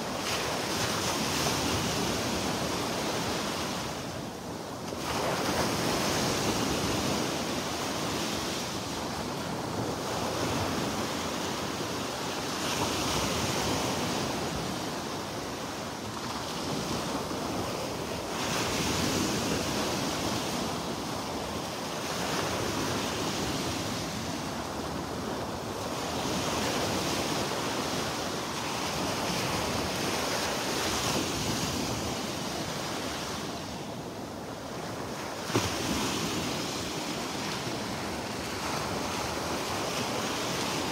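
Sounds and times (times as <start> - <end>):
surf washing onto beach: 0.0 - 40.9.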